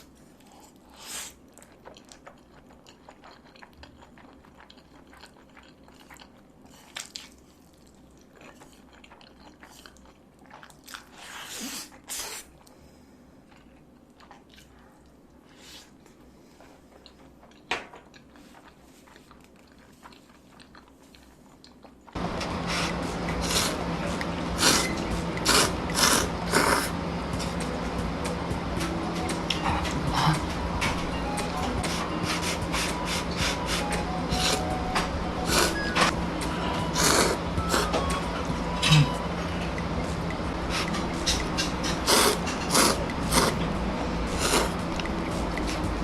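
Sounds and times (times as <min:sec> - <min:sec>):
person chewing food: 0:00.0 - 0:27.7, 0:29.5 - 0:38.1, 0:39.8 - 0:43.6, 0:44.3 - 0:46.0.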